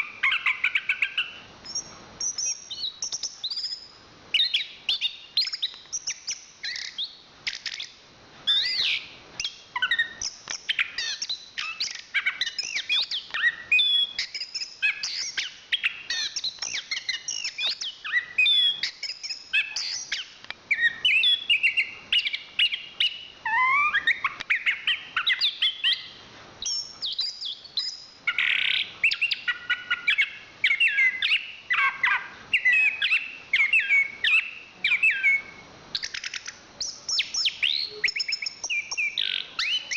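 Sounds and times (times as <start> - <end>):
thrush singing whistled song: 0.0 - 39.9.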